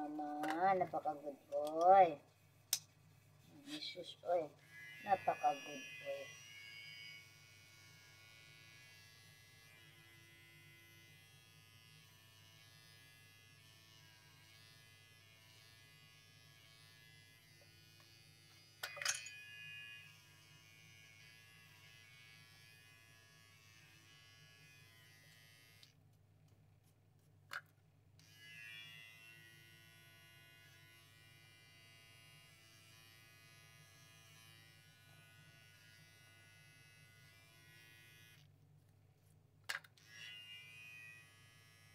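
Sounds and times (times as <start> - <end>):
electric hair clippers buzzing: 4.6 - 26.0, 28.2 - 38.5, 40.0 - 41.9.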